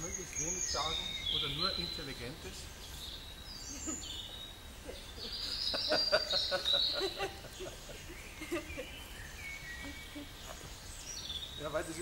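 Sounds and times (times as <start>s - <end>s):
songbirds singing whistled phrases: 0.0s - 12.0s.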